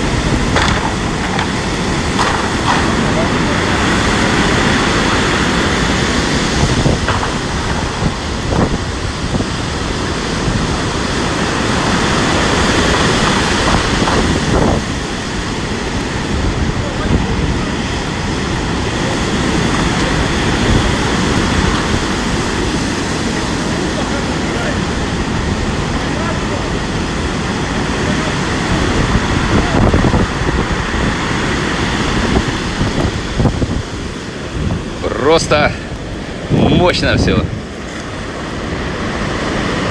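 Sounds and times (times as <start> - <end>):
surf breaking and rushing: 0.0 - 39.9
wind buffeting microphone: 0.0 - 39.9.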